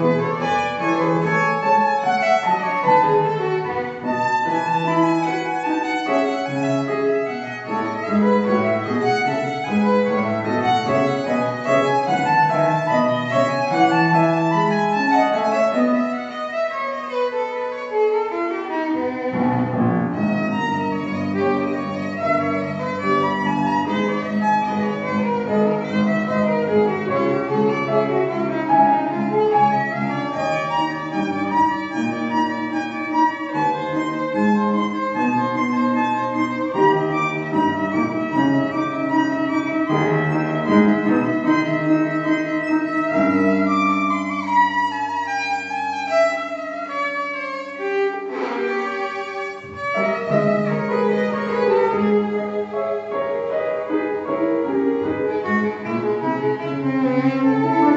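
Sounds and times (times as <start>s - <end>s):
piano accompaniment: 0.0s - 57.9s
violin playing: 0.0s - 57.9s.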